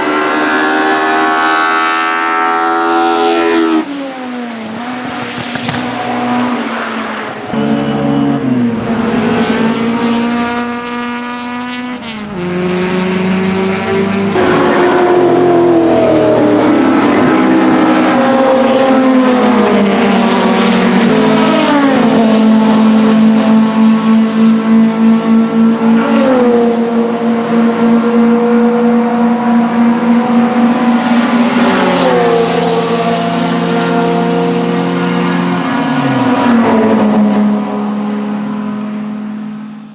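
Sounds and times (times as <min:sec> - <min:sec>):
racecar engine revving: 0:00.0 - 0:39.9.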